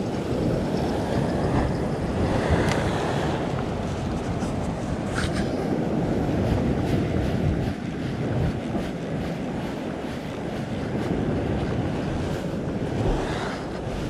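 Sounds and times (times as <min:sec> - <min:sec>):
ocean swell washing against rock: 0:00.0 - 0:14.0
wind buffeting microphone: 0:00.0 - 0:14.0.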